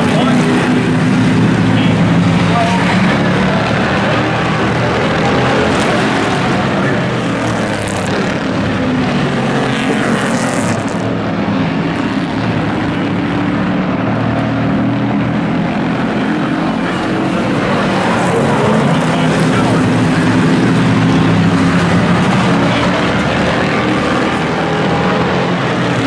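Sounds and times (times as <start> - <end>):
racing truck engines: 0.0 - 26.0.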